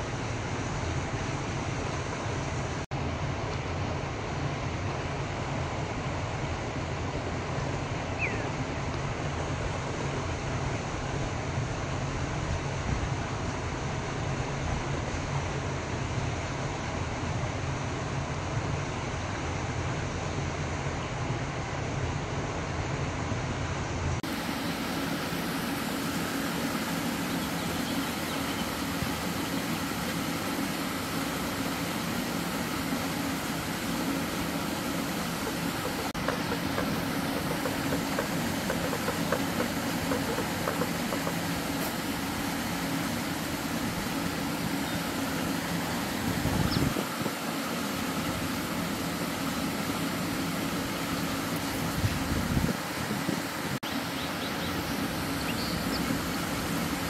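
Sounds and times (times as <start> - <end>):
low mechanical hum: 0.0 - 57.0
rumbling background noise: 0.0 - 57.0.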